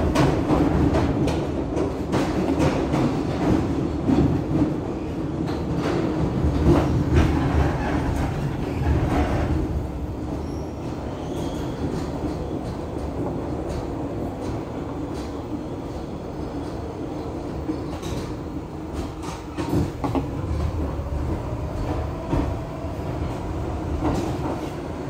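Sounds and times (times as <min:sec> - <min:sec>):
subway car rumbling on rails: 0:00.0 - 0:25.0.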